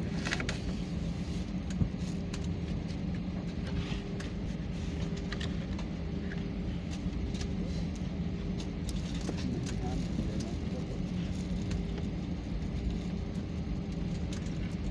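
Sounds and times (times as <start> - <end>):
jet engines running: 0.0 - 14.9.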